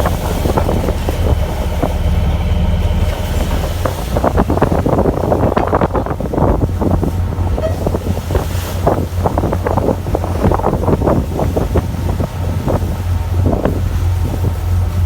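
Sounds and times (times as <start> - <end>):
boat engine humming: 0.0 - 15.0
water splashes and knocks: 0.0 - 15.0
wind on microphone: 0.0 - 15.0.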